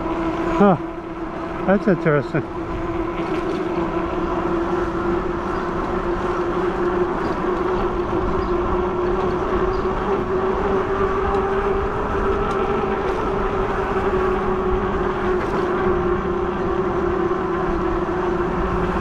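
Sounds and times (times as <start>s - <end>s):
electric bike motor whine: 0.0s - 19.0s
road and wind noise: 0.0s - 19.0s.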